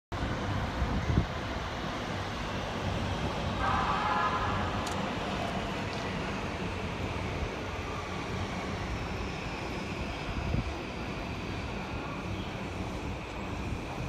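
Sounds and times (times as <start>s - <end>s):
city traffic noise: 0.1s - 14.0s
train wheels rumbling on rails: 0.1s - 14.0s.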